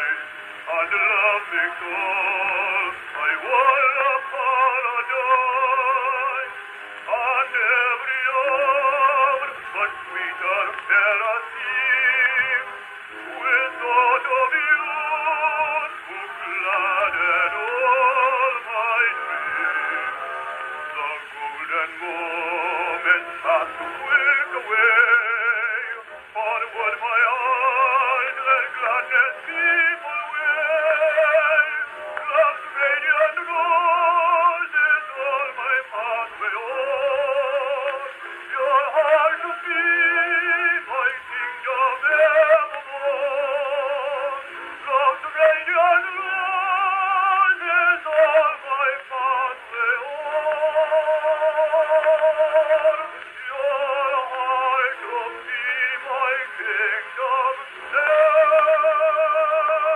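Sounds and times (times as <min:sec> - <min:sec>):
man singing with vibrato: 0:00.0 - 0:59.9.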